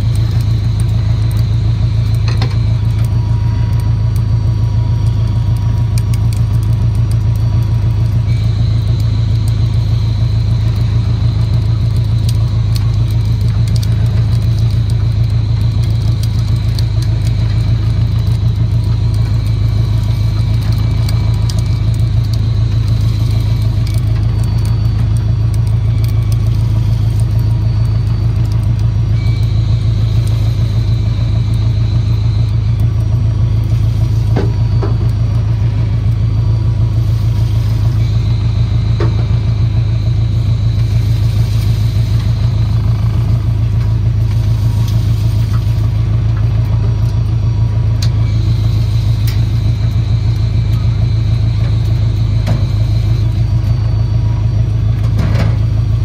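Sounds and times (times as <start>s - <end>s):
boat diesel engine idling: 0.0s - 56.0s
faint high whine: 0.0s - 56.0s.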